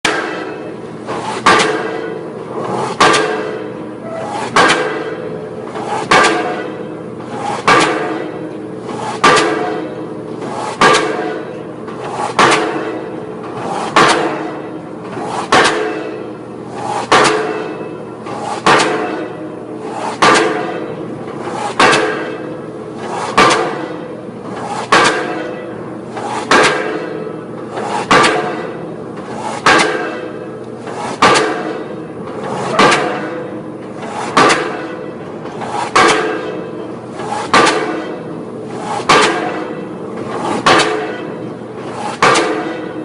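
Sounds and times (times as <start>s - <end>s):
pile-driving hammer striking metal: 0.0s - 43.0s
machinery hum: 0.1s - 43.0s.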